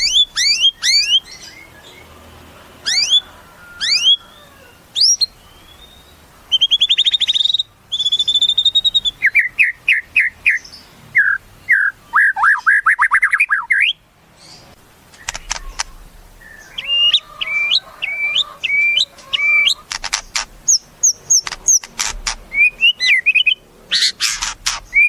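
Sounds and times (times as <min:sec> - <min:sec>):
songbird singing varied song: 0:00.0 - 0:02.2, 0:02.8 - 0:25.0.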